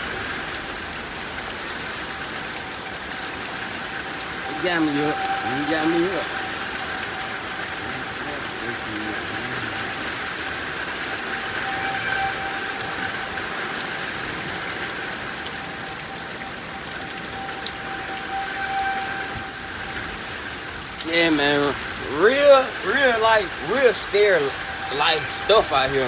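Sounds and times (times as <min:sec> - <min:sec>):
heavy rain falling: 0:00.0 - 0:26.0
warning siren held note: 0:03.4 - 0:26.0.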